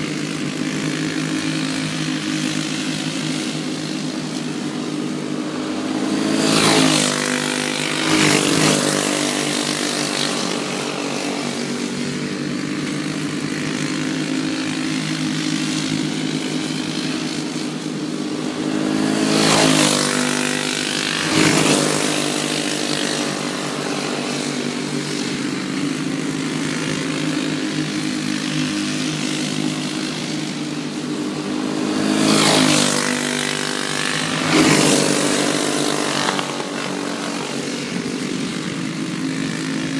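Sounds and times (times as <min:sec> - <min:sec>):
kart engines droning: 0:00.0 - 0:39.9
karts passing by: 0:00.0 - 0:39.9.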